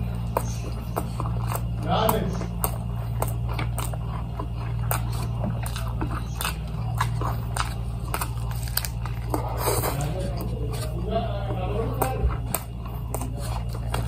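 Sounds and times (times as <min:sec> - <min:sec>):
steady low hum: 0:00.0 - 0:14.0
wet chewing mouth clicks: 0:00.0 - 0:14.0.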